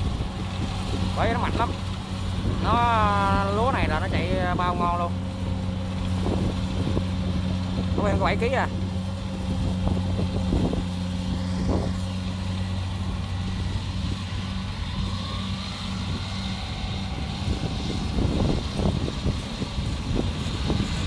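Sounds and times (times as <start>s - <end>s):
combine harvester engine humming: 0.0s - 21.0s.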